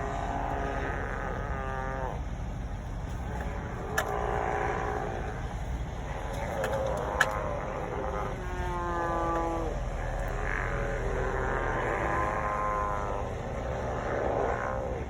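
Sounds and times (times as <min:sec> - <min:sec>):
sea lions barking and honking: 0:00.0 - 0:15.0
steady low rumble: 0:00.0 - 0:15.0.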